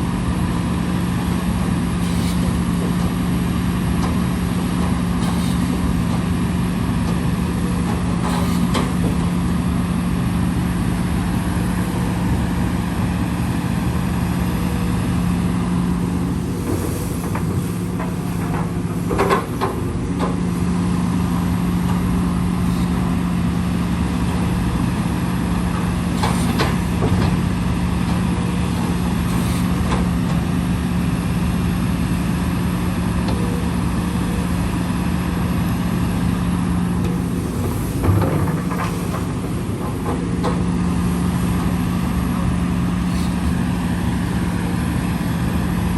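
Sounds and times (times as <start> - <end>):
heavy machine diesel engine running: 0.0 - 45.9.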